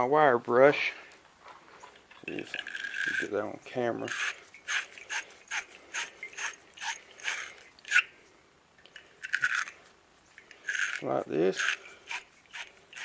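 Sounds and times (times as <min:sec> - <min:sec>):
wire brush scraping pipe: 0:01.6 - 0:08.2, 0:09.0 - 0:13.0.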